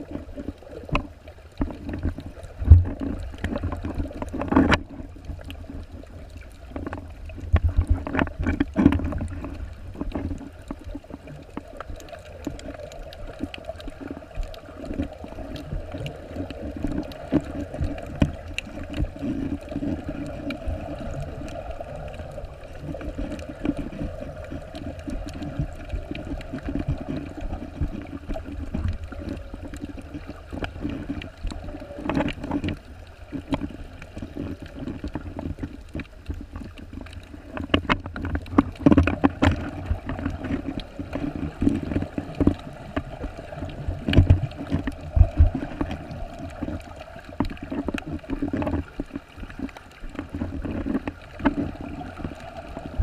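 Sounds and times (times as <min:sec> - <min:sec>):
muffled underwater water movement: 0:00.0 - 0:53.0.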